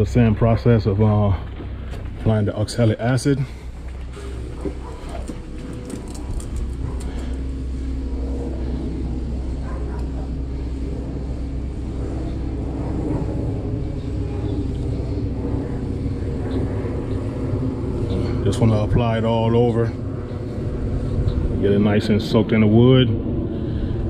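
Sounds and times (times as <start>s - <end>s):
pressure washer engine humming: 0.0s - 22.8s.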